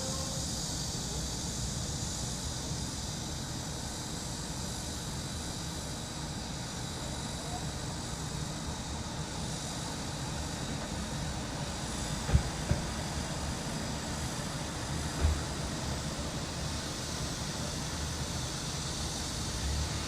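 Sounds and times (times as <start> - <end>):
cicadas buzzing: 0.0 - 20.0
city traffic rumble: 0.0 - 20.0.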